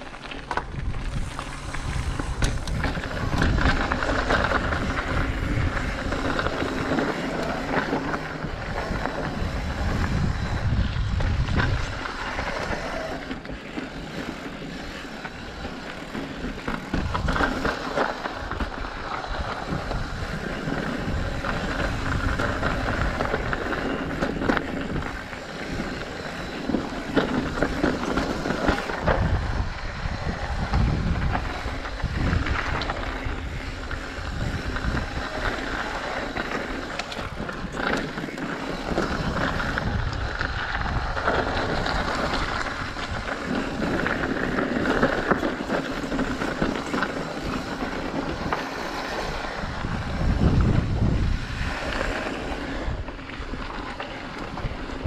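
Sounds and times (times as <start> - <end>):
bike rattling and clicking: 0.0 - 55.0
bike tyres on dirt and rock: 0.0 - 55.0
wind buffeting microphone: 0.0 - 55.0.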